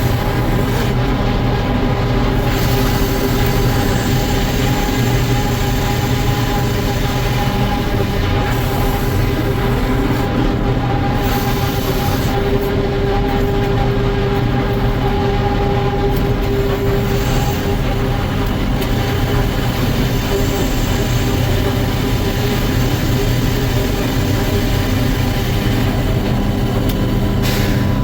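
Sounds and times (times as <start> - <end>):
sawmill machine whining: 0.0 - 28.0.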